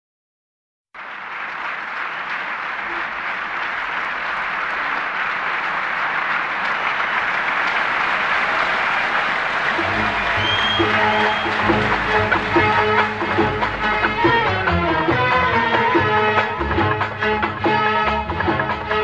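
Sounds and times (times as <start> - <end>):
audience applauding: 1.0 - 19.0.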